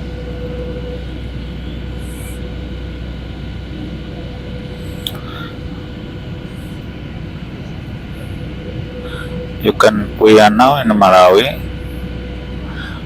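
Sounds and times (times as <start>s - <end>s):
airliner cabin engine rush: 0.0s - 13.0s
faint steady tones: 0.0s - 13.0s.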